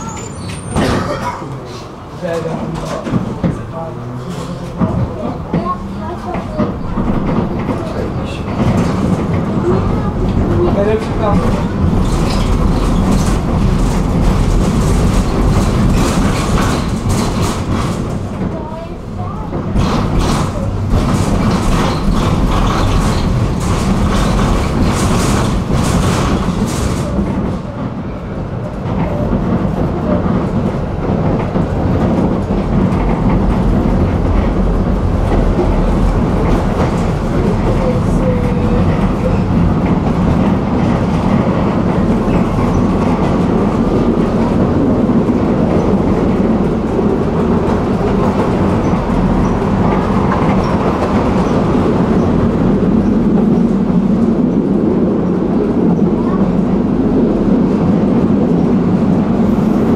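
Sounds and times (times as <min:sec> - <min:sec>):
tram rumbling on rails: 0:00.0 - 0:59.9.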